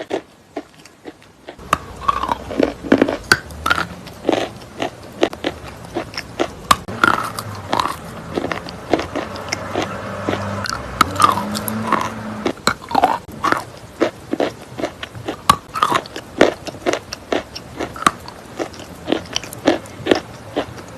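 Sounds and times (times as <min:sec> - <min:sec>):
chewing chalk crunches: 0:00.0 - 0:20.9.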